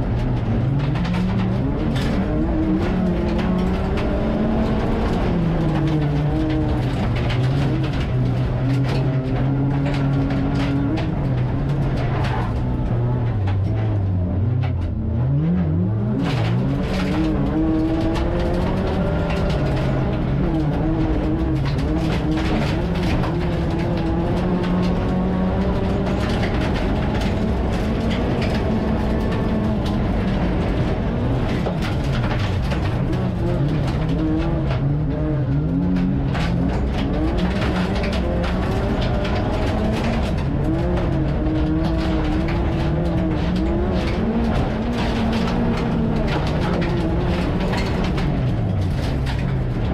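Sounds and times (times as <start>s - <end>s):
gravel clattering against car body: 0.0s - 14.9s, 16.0s - 49.9s.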